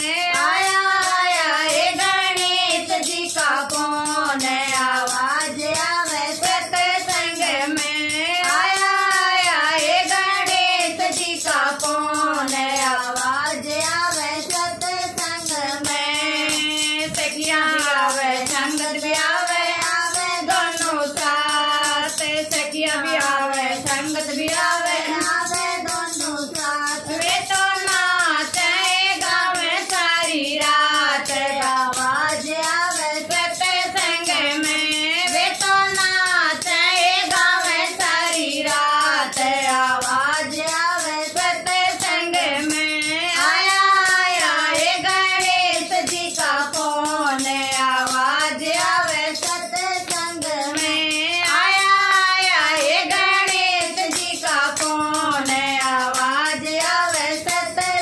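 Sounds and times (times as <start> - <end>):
hand claps: 0.0 - 58.0
women singing in unison: 0.0 - 58.0
wooden clappers: 0.0 - 58.0.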